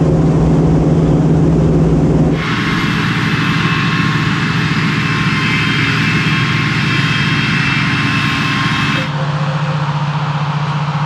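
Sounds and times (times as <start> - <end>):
diesel engine hum: 0.0 - 11.0
mechanical rush from harvester: 0.0 - 11.0.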